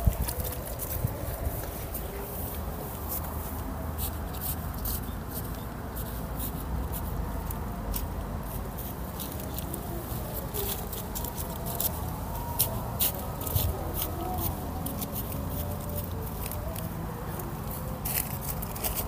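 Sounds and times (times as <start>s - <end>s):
hands rustling in soil: 0.0s - 19.0s.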